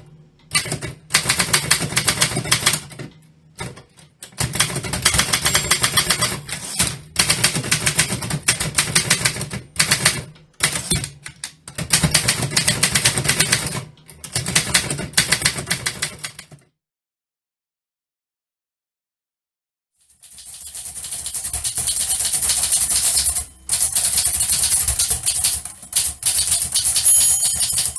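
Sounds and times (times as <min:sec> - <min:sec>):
typewriter typing rapidly: 0:00.5 - 0:03.0, 0:03.6 - 0:16.6, 0:20.1 - 0:27.9.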